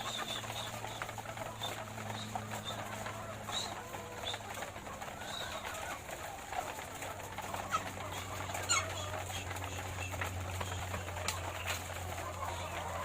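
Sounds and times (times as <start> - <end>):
hens clucking and calling: 0.0 - 13.0.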